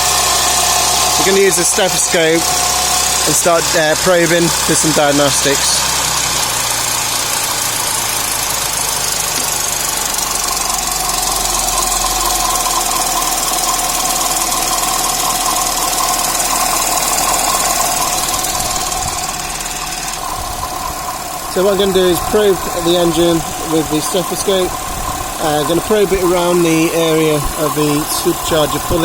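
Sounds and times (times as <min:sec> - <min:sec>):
car engine idling with rattle: 0:00.0 - 0:29.0
steady whine: 0:00.0 - 0:29.0.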